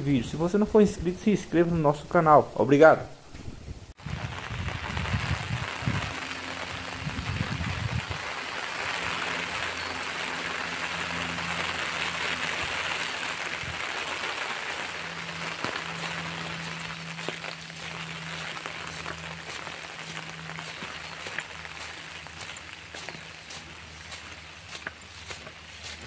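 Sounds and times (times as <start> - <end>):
steady rain falling: 3.9 - 26.0.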